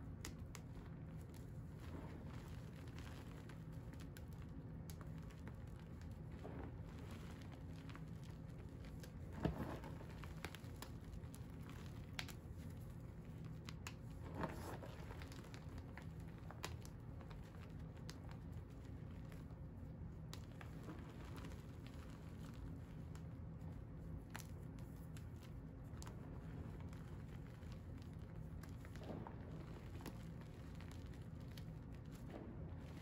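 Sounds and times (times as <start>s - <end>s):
hands crumbling powdery blocks: 0.0s - 33.0s
steady low hum: 0.0s - 33.0s.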